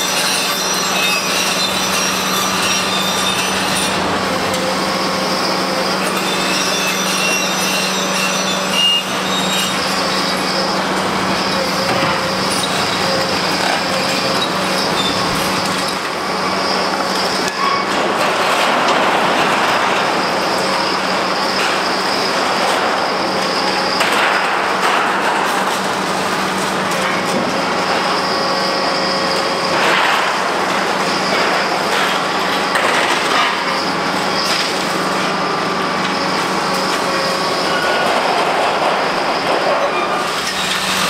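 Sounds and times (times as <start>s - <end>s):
metallic squeals: 0.0s - 24.4s, 26.9s - 41.0s
excavator diesel engine: 0.0s - 41.0s.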